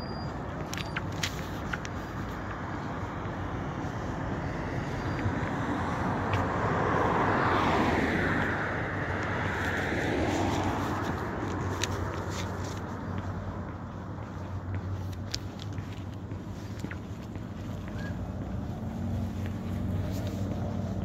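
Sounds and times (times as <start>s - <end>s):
low traffic rumble: 0.0s - 21.0s
vehicle passing: 1.1s - 21.0s.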